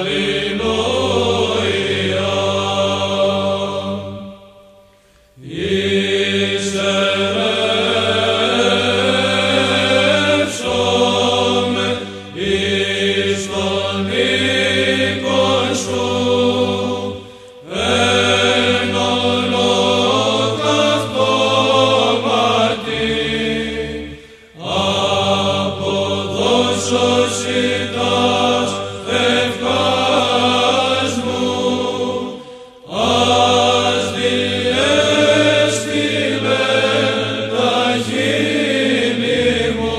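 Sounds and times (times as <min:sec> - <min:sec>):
male choir chanting: 0:00.0 - 0:04.8, 0:05.4 - 0:39.9
low held vocal drone: 0:00.0 - 0:39.9.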